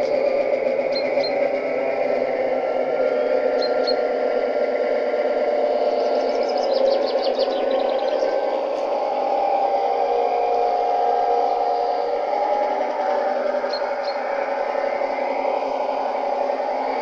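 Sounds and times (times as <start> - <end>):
diesel engine sound from small loudspeaker: 0.0 - 17.0.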